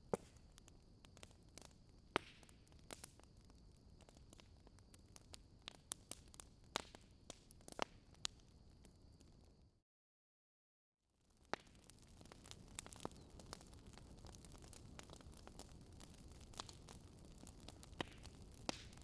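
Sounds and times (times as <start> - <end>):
wood fire crackling: 0.0 - 9.4, 11.3 - 19.0.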